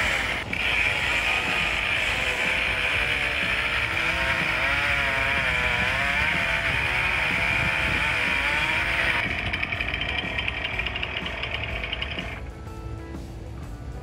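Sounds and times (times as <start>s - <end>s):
chainsaw cutting a tree: 0.0s - 12.5s.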